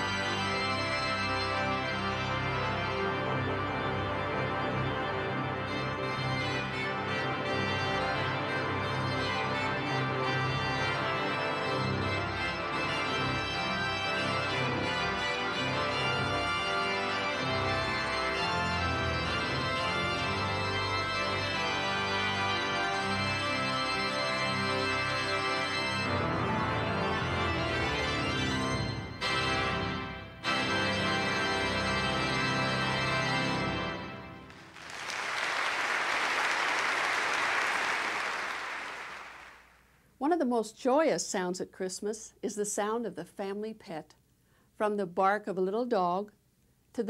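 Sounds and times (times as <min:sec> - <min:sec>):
pipe organ chords: 0:00.0 - 0:39.6.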